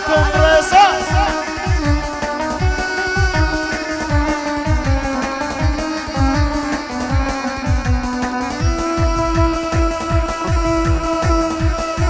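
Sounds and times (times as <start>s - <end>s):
electronic kick-drum beat: 0.0s - 12.0s.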